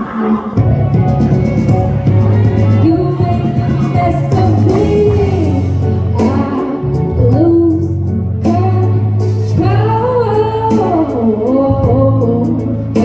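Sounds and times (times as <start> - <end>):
person singing: 0.0 - 13.0
instrumental accompaniment with bass: 0.6 - 13.0.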